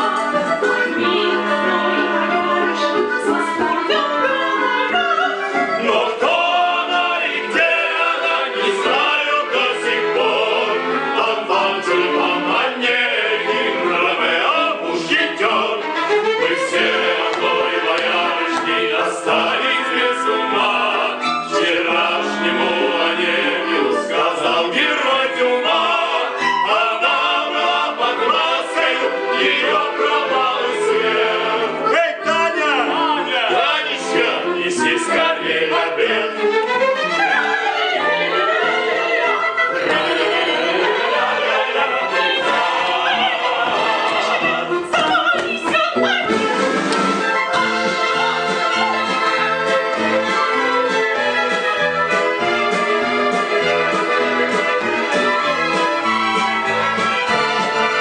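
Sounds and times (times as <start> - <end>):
singers performing: 0.0 - 36.5, 37.2 - 47.3
live orchestra playing: 0.0 - 58.0.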